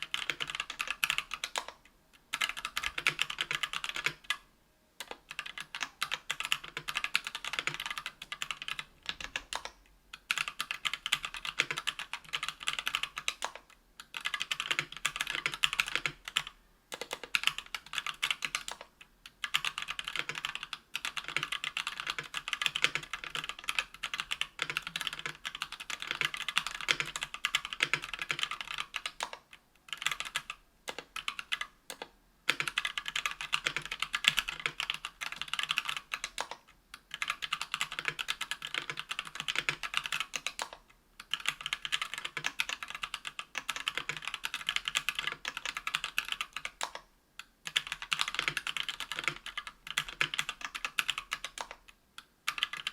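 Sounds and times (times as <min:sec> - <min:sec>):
keyboard typing clicks: 0:00.0 - 0:04.4, 0:05.0 - 0:47.1, 0:47.7 - 0:52.9.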